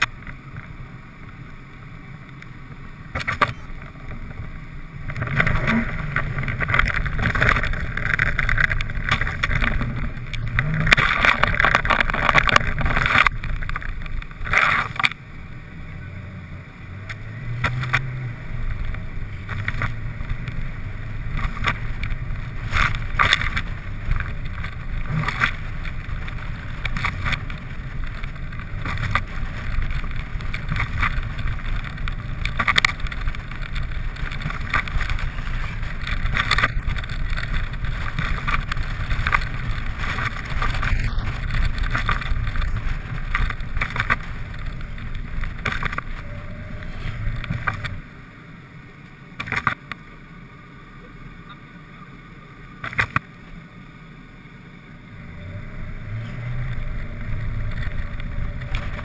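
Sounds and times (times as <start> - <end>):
knocks and crackles: 0.0 - 15.4, 16.7 - 48.2, 49.4 - 50.2, 52.8 - 53.4, 55.4 - 59.0
road and wind rumble: 0.0 - 59.0.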